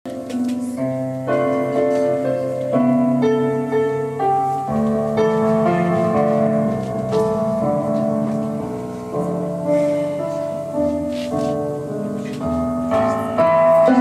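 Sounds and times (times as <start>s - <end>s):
keyboard playing slow chords: 0.1s - 14.0s.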